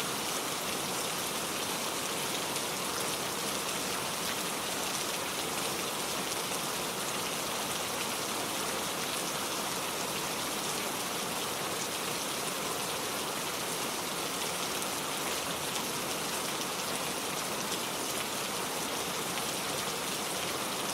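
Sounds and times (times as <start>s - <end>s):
heavy rain falling: 0.0s - 20.9s.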